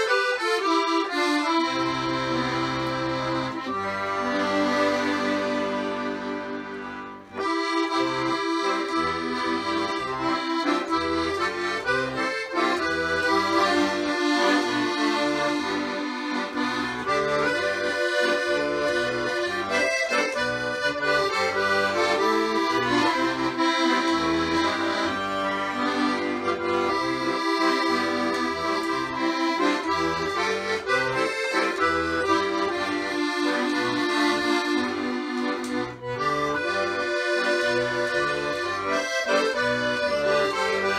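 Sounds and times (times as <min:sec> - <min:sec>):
accordion music with bass line: 0:00.0 - 0:40.9.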